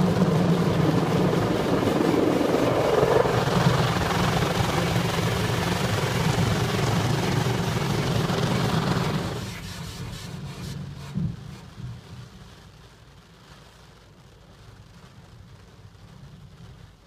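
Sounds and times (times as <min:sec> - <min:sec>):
car wash machinery rumble: 0:00.0 - 0:17.0.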